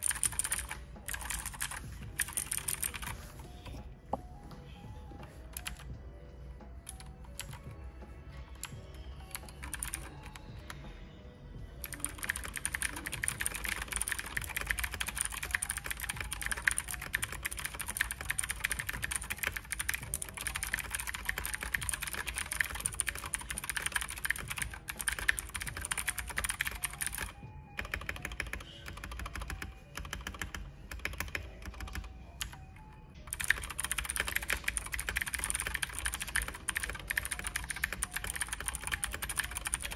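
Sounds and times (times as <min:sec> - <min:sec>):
typing on clicky mechanical keyboard: 0:00.0 - 0:03.8, 0:05.5 - 0:05.9, 0:06.9 - 0:07.7, 0:08.5 - 0:10.5, 0:11.8 - 0:39.9
background music: 0:00.0 - 0:39.9.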